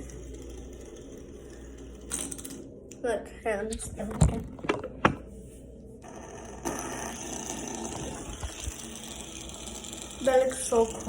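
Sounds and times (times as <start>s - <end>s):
fidget spinner whirring: 0.0s - 11.0s.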